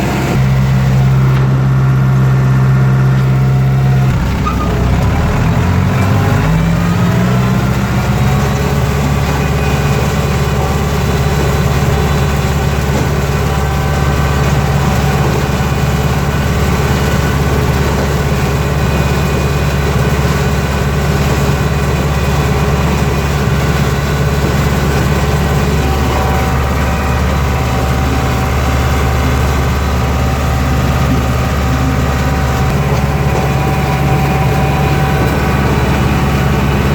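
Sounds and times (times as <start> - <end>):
forage harvester mechanical din: 0.0 - 36.9
tractor diesel engine under load: 0.0 - 36.9.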